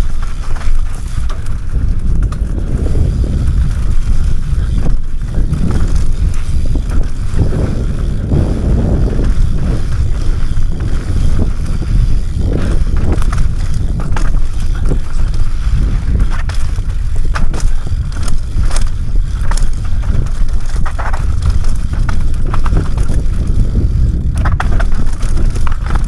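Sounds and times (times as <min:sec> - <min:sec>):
bike knocks and rattles: 0:00.0 - 0:26.0
wind buffeting microphone: 0:00.0 - 0:26.0.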